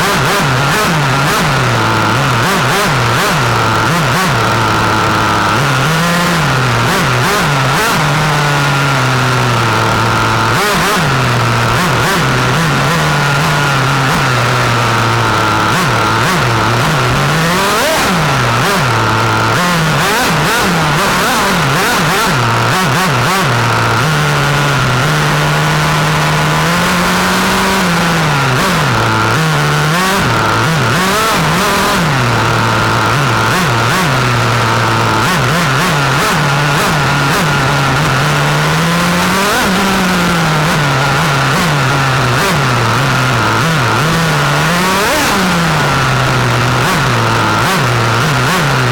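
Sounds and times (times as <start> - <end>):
model car engine revving: 0.0 - 48.9.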